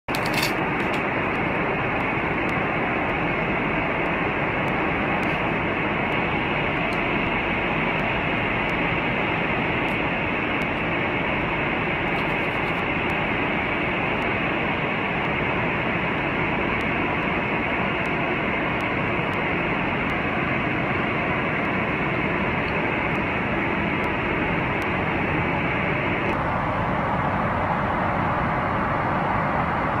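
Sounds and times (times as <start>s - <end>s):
aircraft cabin noise: 0.0s - 30.0s.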